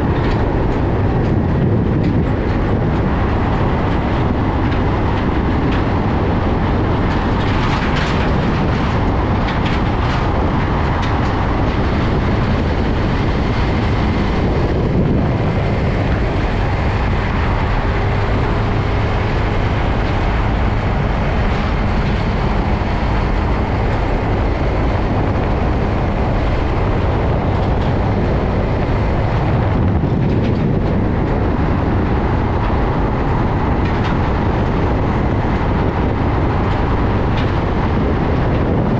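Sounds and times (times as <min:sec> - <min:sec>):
diesel engines: 0:00.0 - 0:38.9
trucks rolling past: 0:00.0 - 0:38.9.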